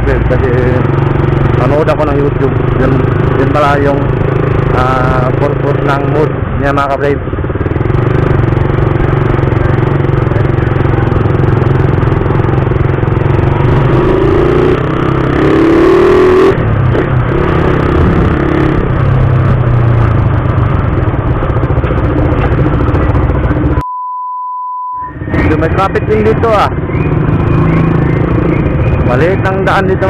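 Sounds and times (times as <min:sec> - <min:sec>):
motorcycle engine running: 0:00.0 - 0:23.8, 0:25.1 - 0:30.0
road noise: 0:00.0 - 0:23.8, 0:25.0 - 0:30.0.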